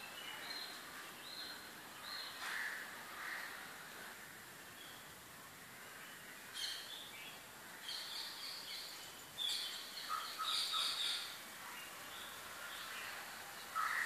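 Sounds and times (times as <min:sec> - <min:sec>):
birds chirping: 0:00.0 - 0:03.7, 0:04.6 - 0:14.0
low steady hiss: 0:00.0 - 0:14.0.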